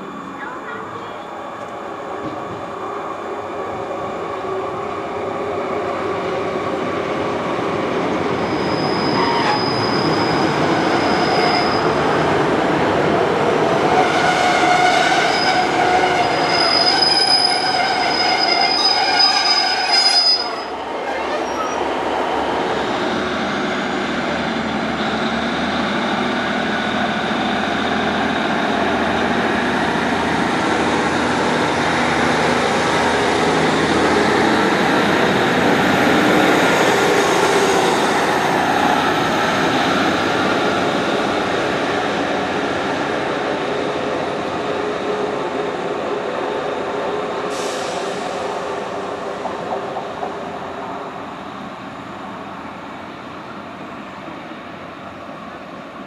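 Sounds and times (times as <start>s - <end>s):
diesel train running past: 0.0s - 56.0s.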